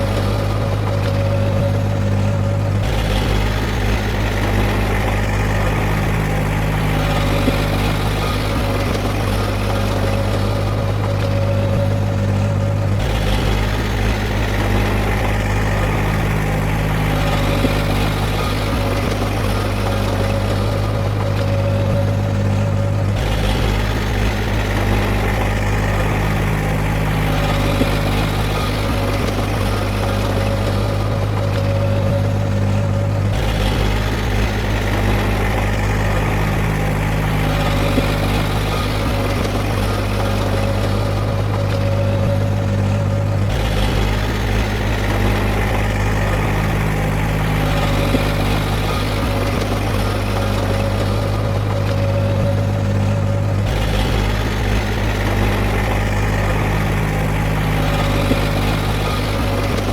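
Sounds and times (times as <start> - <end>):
heavy diesel machinery droning: 0.0 - 59.9.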